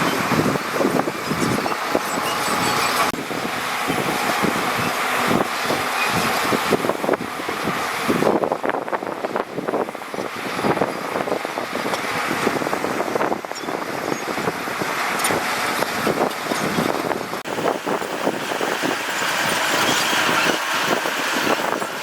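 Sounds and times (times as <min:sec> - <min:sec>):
heavy machinery engine noise: 0:00.0 - 0:22.0
machinery rattling and clatter: 0:00.0 - 0:22.0.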